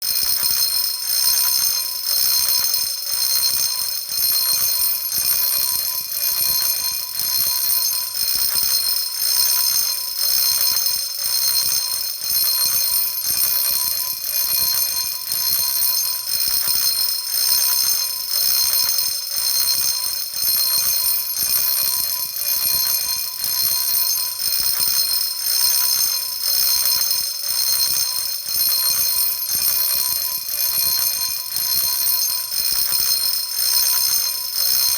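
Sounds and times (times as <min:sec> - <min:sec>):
fire alarm bell ringing: 0:00.0 - 0:34.9.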